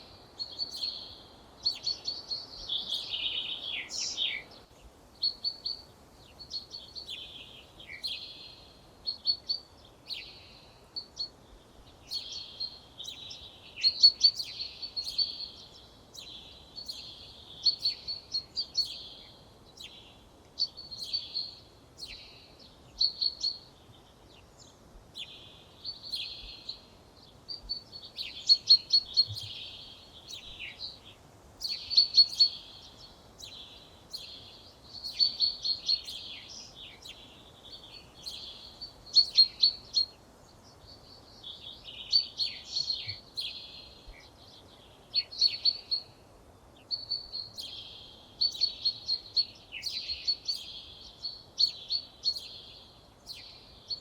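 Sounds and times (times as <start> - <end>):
faint background hiss: 0.0 - 54.0
songbird singing: 0.0 - 54.0.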